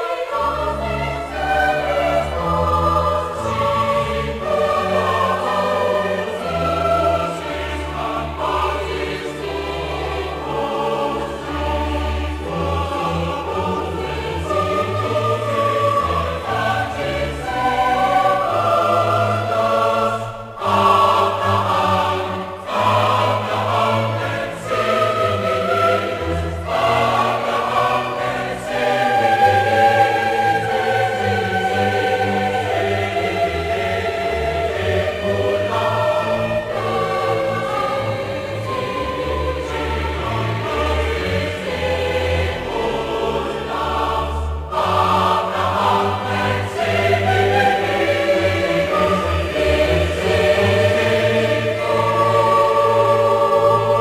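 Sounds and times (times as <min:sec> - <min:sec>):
choir singing held notes: 0:00.0 - 0:54.0.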